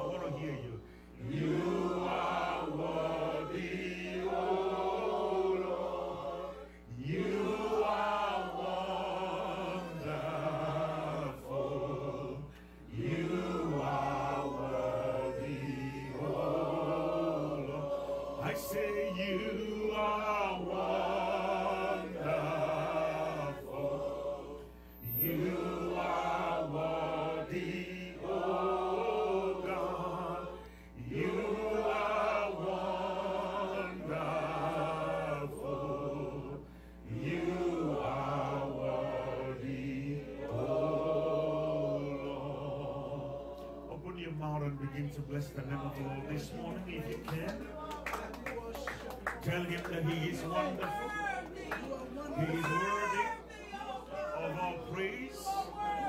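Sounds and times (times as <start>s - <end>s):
voices singing a worship chorus: 0.0s - 47.8s, 49.4s - 56.0s
steady low hum: 0.0s - 56.0s.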